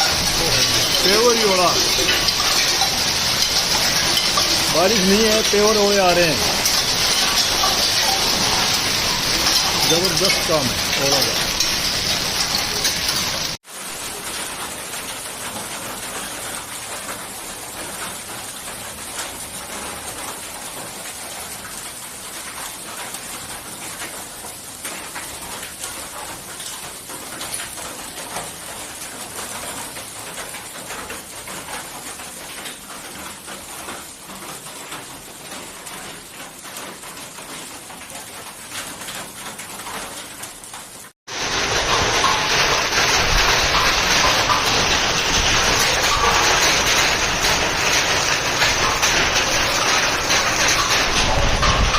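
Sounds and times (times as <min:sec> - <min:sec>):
hail falling: 0:00.0 - 0:51.9
small sharp hail impacts: 0:00.0 - 0:51.9.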